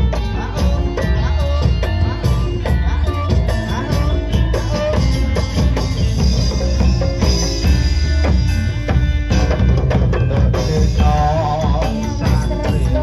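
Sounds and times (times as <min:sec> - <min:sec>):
ringing metallophone tones: 0:00.0 - 0:13.0
steady drumming: 0:00.0 - 0:13.0
wavering melody line: 0:00.0 - 0:13.0.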